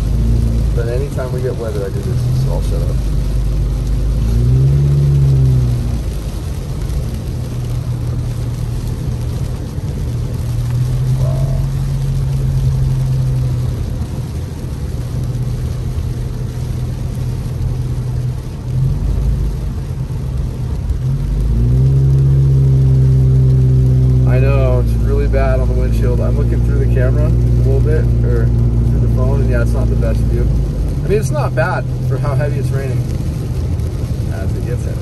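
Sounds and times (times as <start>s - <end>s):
car engine drone: 0.0s - 35.0s
rain on car: 0.0s - 35.0s
tyres hissing on wet pavement: 0.0s - 35.0s.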